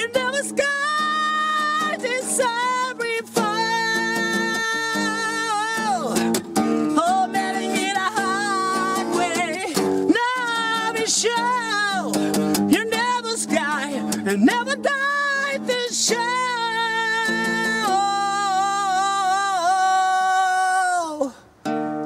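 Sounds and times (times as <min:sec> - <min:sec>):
man singing: 0:00.0 - 0:21.4
acoustic guitar strumming: 0:00.0 - 0:22.0.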